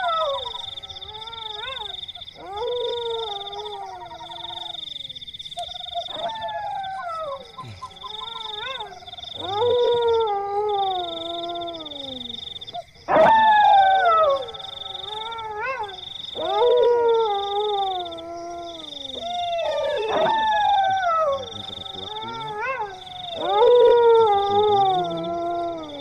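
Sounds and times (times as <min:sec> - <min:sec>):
dogs yipping: 0:00.0 - 0:04.8, 0:05.6 - 0:26.0
dogs howling: 0:00.0 - 0:04.9, 0:05.7 - 0:26.0.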